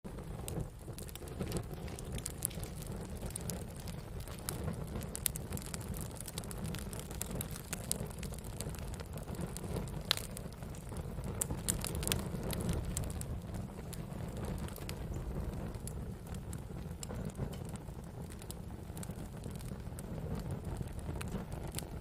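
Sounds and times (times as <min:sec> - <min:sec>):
wood fire crackling and popping: 0:00.1 - 0:22.0.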